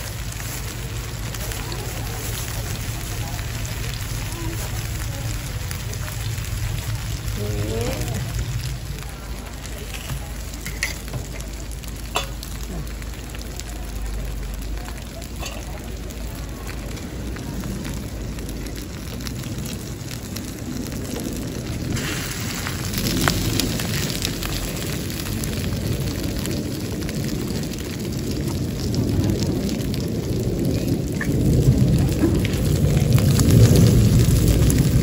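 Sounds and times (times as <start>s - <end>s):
food frying on a griddle: 0.0s - 35.0s.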